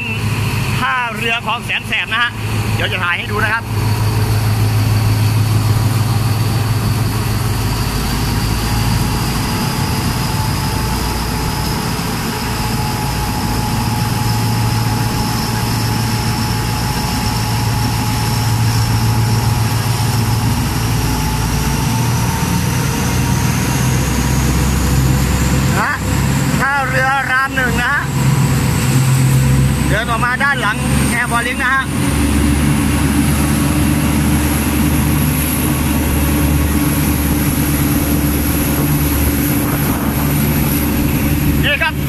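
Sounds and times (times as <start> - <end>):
diesel train engine hum: 0.0 - 42.0
high whine rising in pitch: 0.0 - 42.0.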